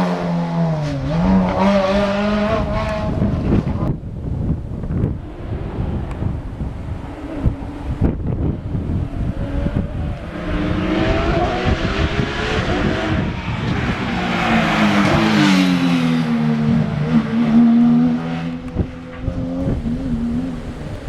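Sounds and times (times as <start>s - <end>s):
rally car passing at speed: 0.0s - 21.0s
tyre and road noise: 0.0s - 21.0s
wind buffeting microphone: 0.9s - 21.0s.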